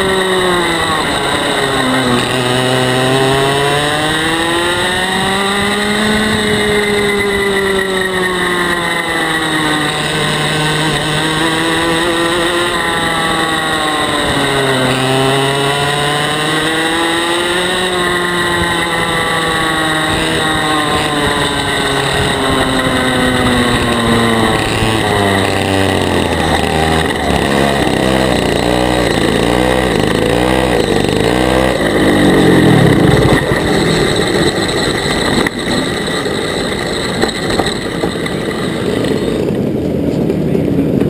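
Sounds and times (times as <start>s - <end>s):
kart engine: 0.0s - 41.0s
other kart engines: 0.0s - 41.0s.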